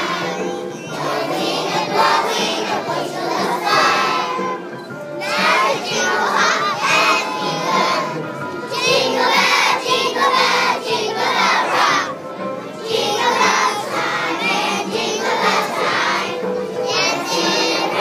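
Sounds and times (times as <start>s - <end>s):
children singing together: 0.0s - 4.6s, 5.2s - 18.0s.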